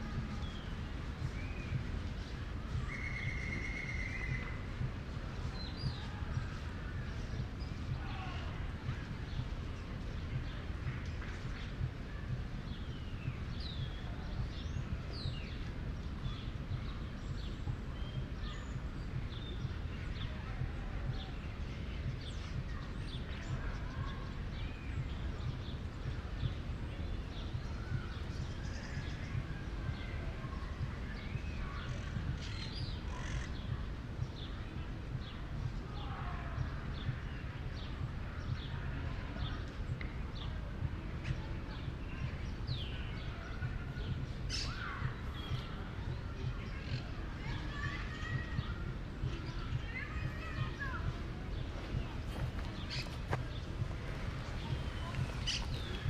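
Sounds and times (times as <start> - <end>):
birds chirping: 0.0 - 56.0
low city rumble: 0.0 - 56.0.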